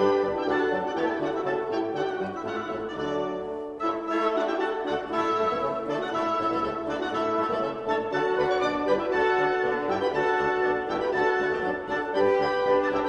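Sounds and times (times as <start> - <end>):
instrumental music sustained notes: 0.0 - 13.0.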